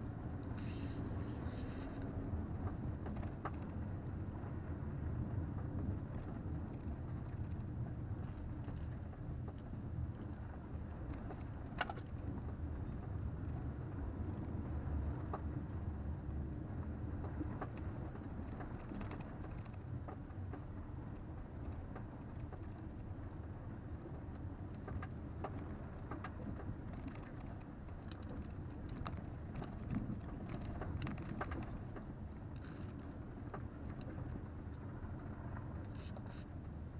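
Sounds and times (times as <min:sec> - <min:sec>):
engine and tyre rumble: 0:00.0 - 0:36.9.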